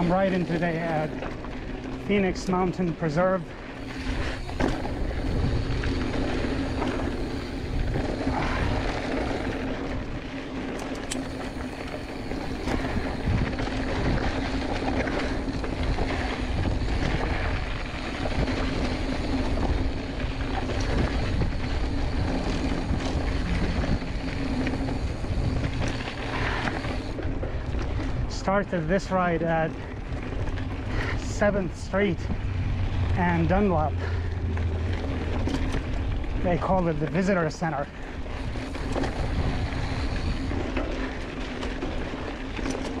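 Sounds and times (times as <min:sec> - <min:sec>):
bike frame rattling over rocks: 0:00.0 - 0:43.0
bike tyres rumbling on gravel: 0:00.0 - 0:43.0.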